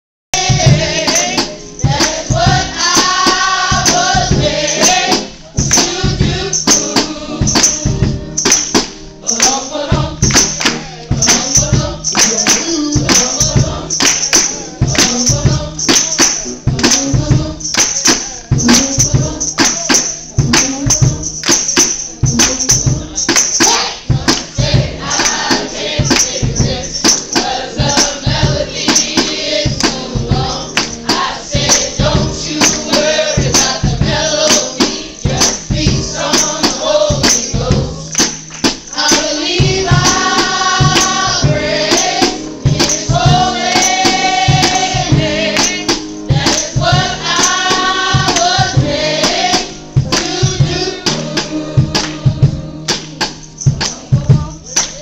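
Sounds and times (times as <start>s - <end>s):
group singing gospel: 0.4s - 55.0s
tambourine beat: 0.4s - 55.0s.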